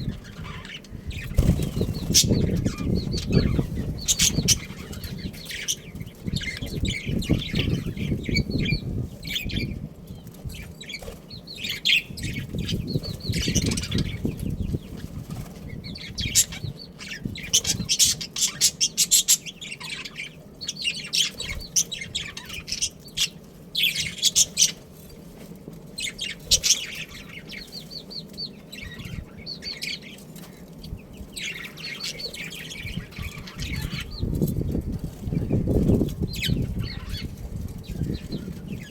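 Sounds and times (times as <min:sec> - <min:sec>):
budgerigars chattering: 0:00.0 - 0:09.8, 0:10.5 - 0:24.9, 0:26.0 - 0:38.9
wings fluttering: 0:00.0 - 0:38.9.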